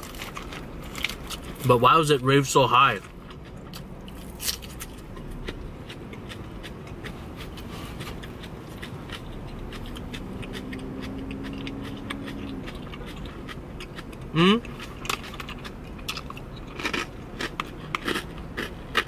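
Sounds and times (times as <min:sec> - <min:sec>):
crunchy chewing: 0:00.0 - 0:01.7, 0:02.9 - 0:19.0.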